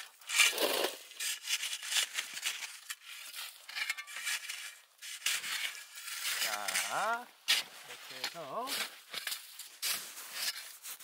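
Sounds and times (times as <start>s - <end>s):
snow shovel scraping packed snow: 0.3s - 3.6s, 4.2s - 11.0s.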